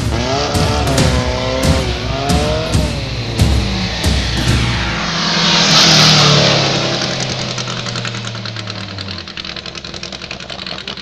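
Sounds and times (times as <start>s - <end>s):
racing car engine passing: 0.1s - 9.5s.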